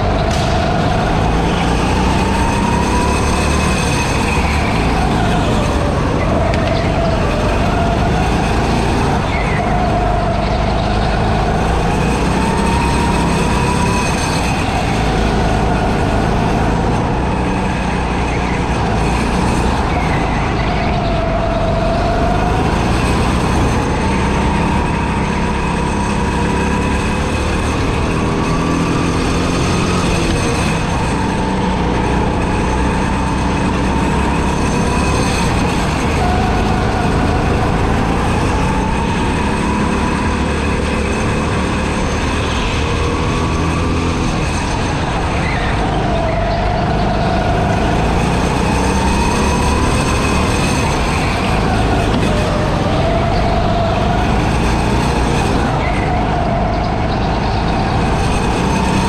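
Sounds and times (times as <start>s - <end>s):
go-kart engine whining: 0.0s - 59.0s.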